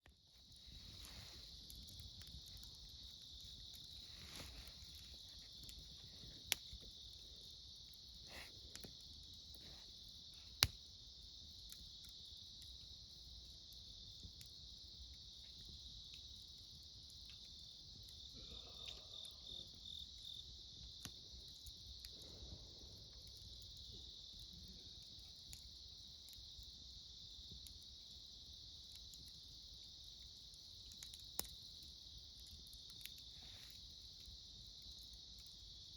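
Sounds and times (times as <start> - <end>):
fire popping: 0.0 - 35.9
campfire crackling: 0.1 - 35.9
crickets chirring: 0.1 - 35.9.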